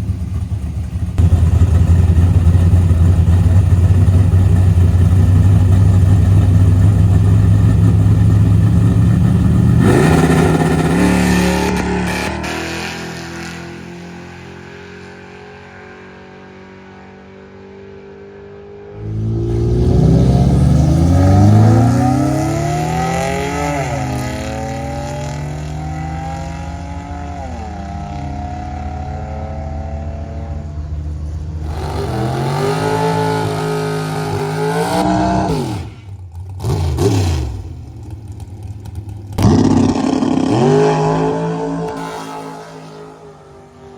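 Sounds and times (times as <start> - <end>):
drag car engine at full throttle: 0.0 - 43.9.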